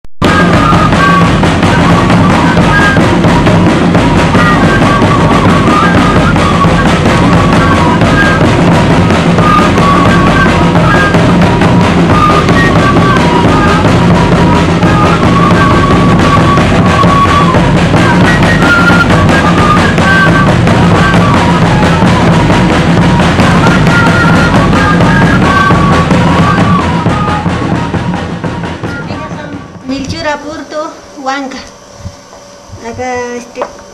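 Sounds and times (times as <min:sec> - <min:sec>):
loud music with drums: 0:00.2 - 0:30.7
high stepped melody: 0:00.2 - 0:33.0.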